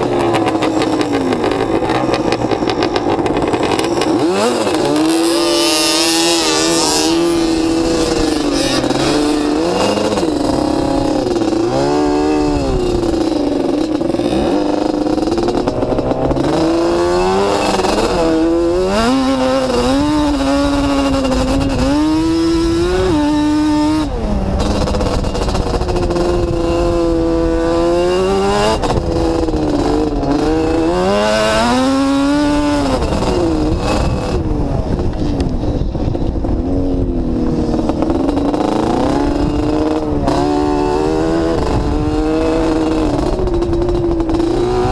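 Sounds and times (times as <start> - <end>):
motorbike engine revving: 0.0 - 44.9
wind on microphone: 0.0 - 44.9.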